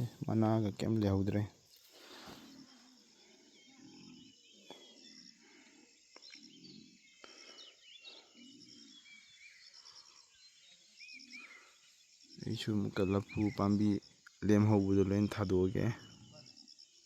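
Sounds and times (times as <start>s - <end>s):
bird chirps: 0.0s - 17.0s
pulsing insect call: 0.0s - 17.0s.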